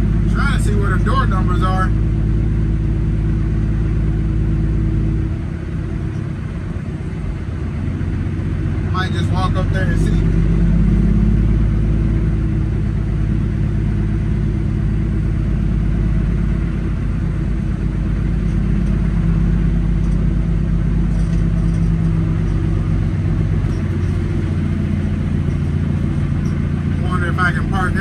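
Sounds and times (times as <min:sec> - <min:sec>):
diesel truck engine rumbling: 0:00.0 - 0:28.0.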